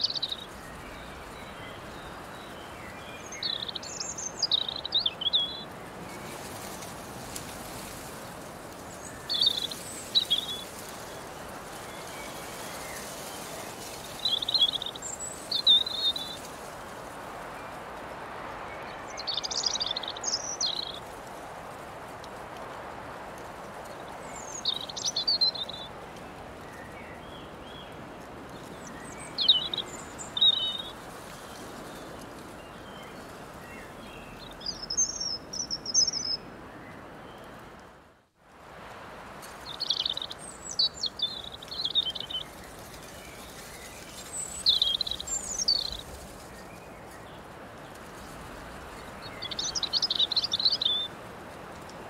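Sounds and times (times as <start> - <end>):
songbirds chirping: 0.0 - 52.0.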